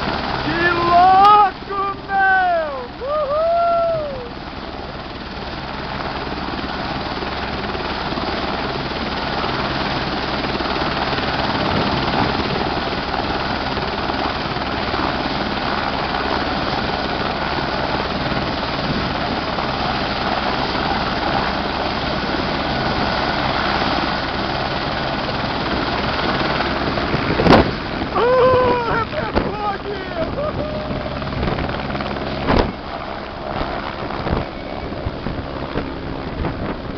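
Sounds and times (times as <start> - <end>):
helicopter turbine and rotor: 0.0 - 36.9.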